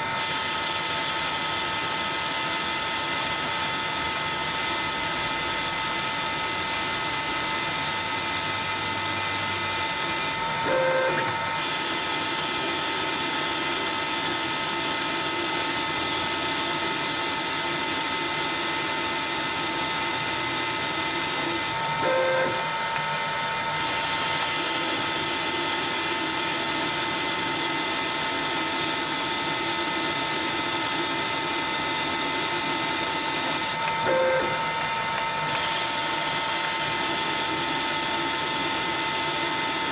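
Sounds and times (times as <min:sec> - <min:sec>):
lathe machine whine: 0:00.0 - 0:39.9.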